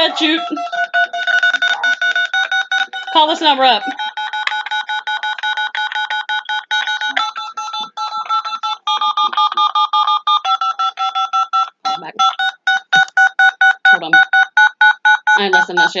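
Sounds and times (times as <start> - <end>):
rapid electronic beeping tune: 0.0 - 16.0.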